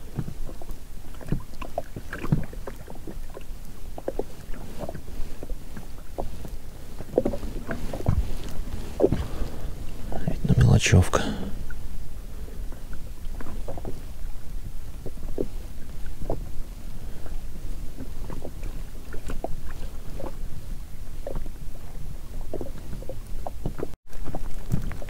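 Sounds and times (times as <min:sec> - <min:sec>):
wind rumble on microphone: 0:00.0 - 0:10.5, 0:11.6 - 0:25.0
waves lapping against boat: 0:00.0 - 0:25.0.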